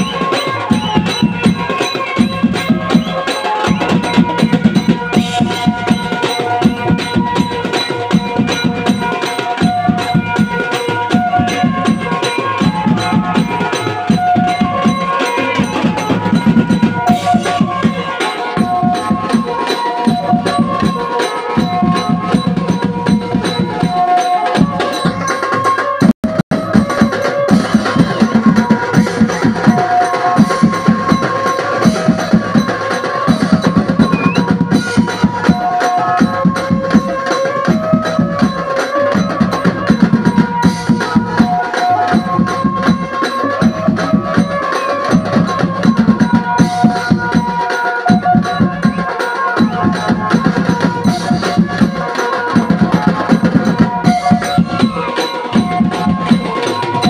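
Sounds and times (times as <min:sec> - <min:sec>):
large drums beating: 0:00.0 - 0:57.0.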